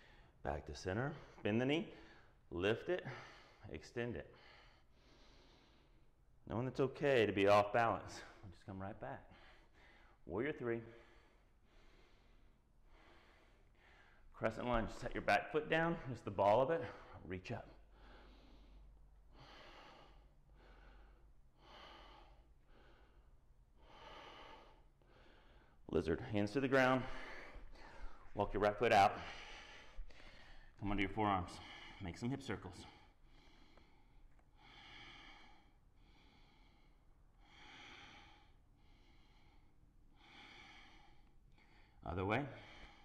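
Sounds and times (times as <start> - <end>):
man breathing slowly: 0.0 - 0.4, 1.2 - 6.4, 9.2 - 14.4, 16.0 - 43.0.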